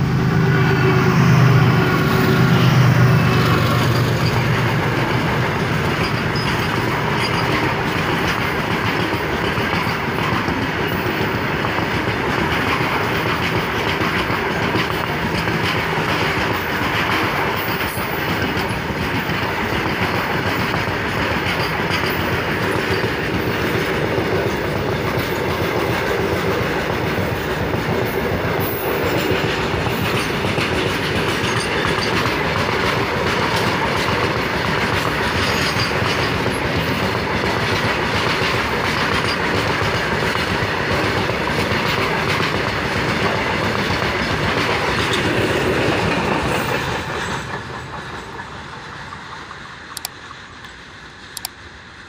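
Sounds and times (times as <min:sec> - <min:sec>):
diesel locomotive engine drone: 0:00.0 - 0:52.0
train wheels clattering over rail joints: 0:01.6 - 0:51.6.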